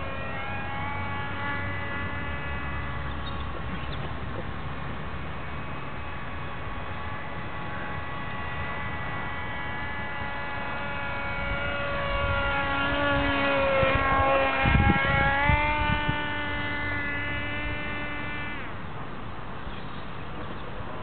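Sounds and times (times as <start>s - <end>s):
wind buffeting microphone: 0.0s - 18.0s
model airplane motor droning: 0.0s - 21.0s.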